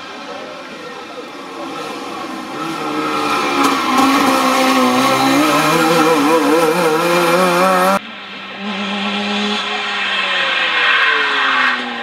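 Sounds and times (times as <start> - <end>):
rally car engine revving: 1.5 - 12.0.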